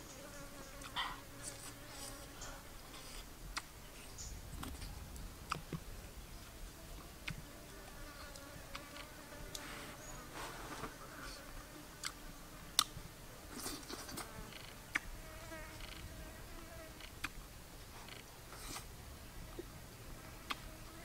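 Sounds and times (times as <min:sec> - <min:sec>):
insects buzzing: 0:00.0 - 0:17.2, 0:18.0 - 0:21.0.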